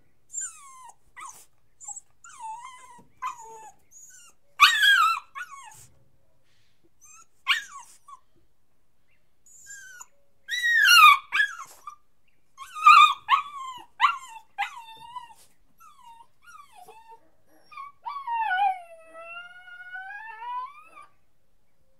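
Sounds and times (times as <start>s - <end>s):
puppy whining and yelping: 0.3s - 6.0s, 7.0s - 8.2s, 9.5s - 12.0s, 12.6s - 21.2s.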